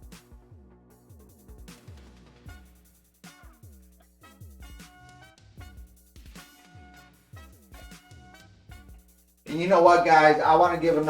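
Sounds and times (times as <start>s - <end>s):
electronic music with steady beat: 0.0s - 5.0s, 5.6s - 8.2s, 8.8s - 11.0s.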